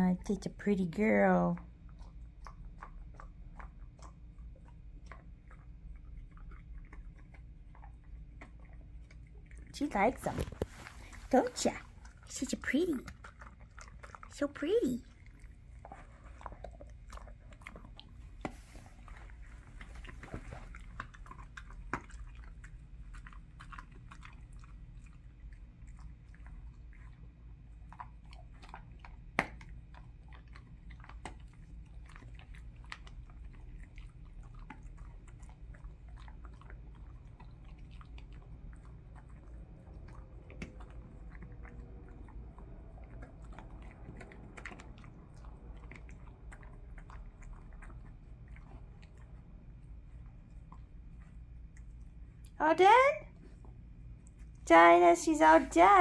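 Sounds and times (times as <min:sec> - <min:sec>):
dog gnawing a chew: 0:01.5 - 0:52.6, 0:53.3 - 0:54.7.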